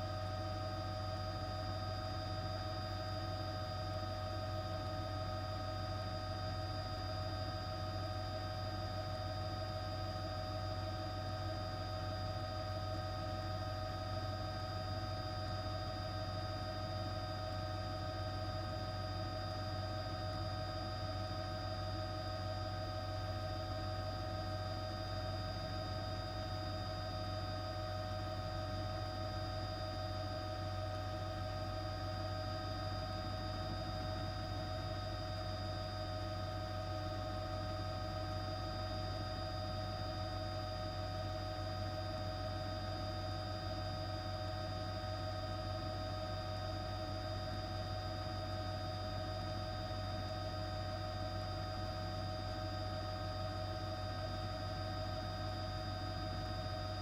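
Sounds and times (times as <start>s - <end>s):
steady multi-tone hum: 0.0s - 57.0s.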